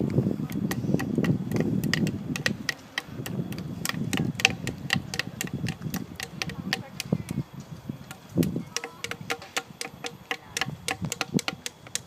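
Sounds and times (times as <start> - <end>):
clicks and taps on natural objects: 0.5 - 7.4, 8.1 - 12.0.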